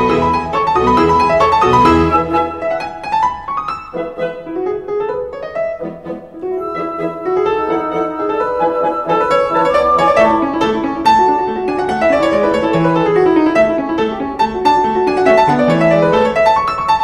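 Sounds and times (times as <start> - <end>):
classical solo piano music: 0.0 - 17.0.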